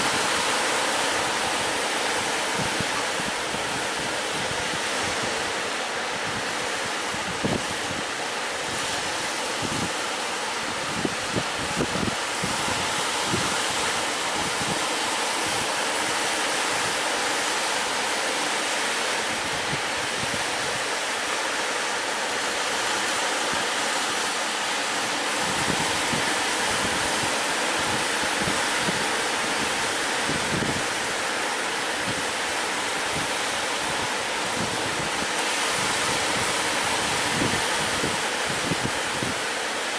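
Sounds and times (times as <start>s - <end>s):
wind buffeting microphone: 0.0s - 17.1s, 19.2s - 21.1s, 24.8s - 39.9s
sea surf rushing: 0.0s - 39.9s.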